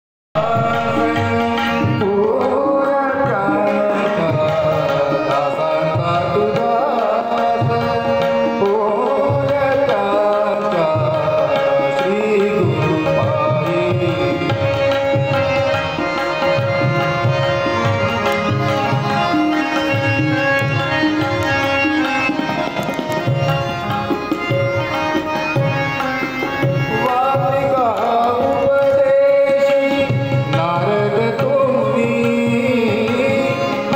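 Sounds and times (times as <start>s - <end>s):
harmonium chords: 0.4s - 33.9s
man singing devotional melody: 0.4s - 33.9s
tabla drumming: 0.4s - 33.9s.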